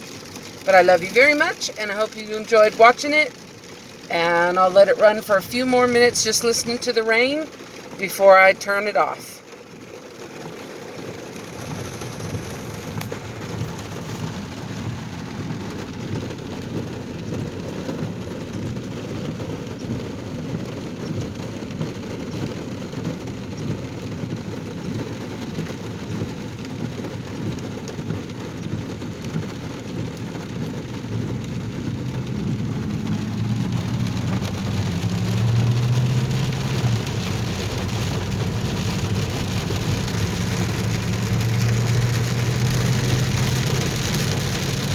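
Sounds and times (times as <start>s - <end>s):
low engine hum: 0.0s - 44.9s
rain and wet road hiss: 0.0s - 44.9s.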